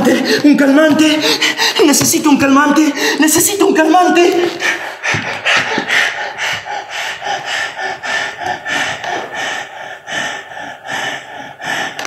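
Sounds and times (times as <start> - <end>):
man panting harshly: 0.0 - 2.0, 2.8 - 3.3, 4.4 - 12.0.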